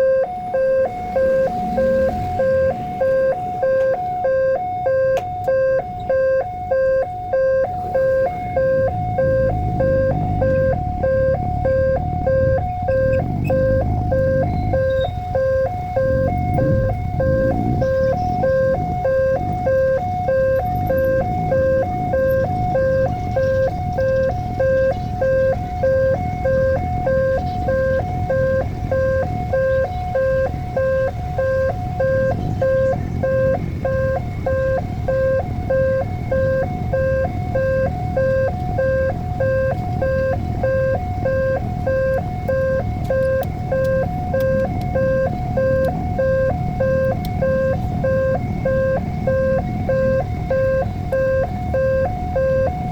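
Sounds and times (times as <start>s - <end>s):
level crossing two-tone alarm: 0.0s - 52.9s
steady low rumble: 0.0s - 52.9s.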